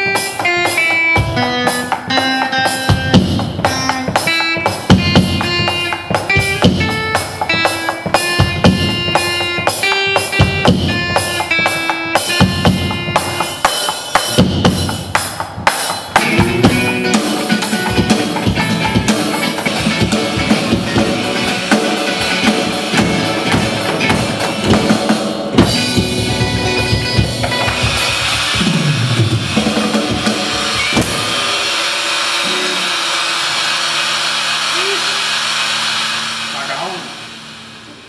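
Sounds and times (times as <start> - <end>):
electric guitar: 0.0 - 38.0
electronic drum solo: 0.0 - 38.0
cymbal hits: 3.7 - 38.0.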